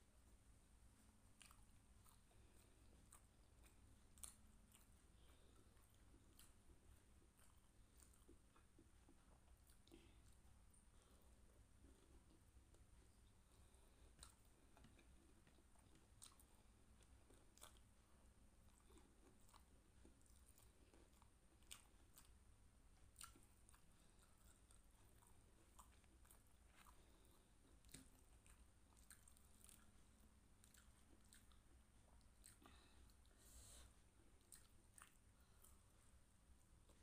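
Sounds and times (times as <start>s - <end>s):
faint chewing: 0.0s - 37.0s.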